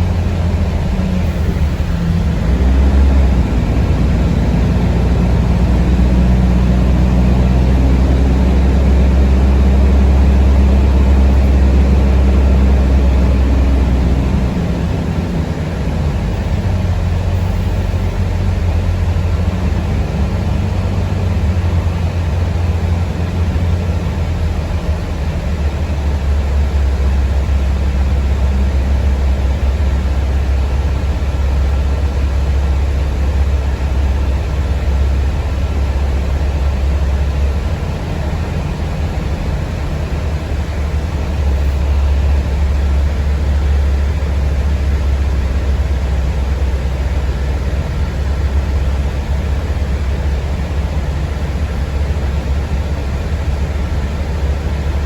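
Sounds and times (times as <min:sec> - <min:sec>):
bus drive humming inside cabin: 0:00.0 - 0:55.0.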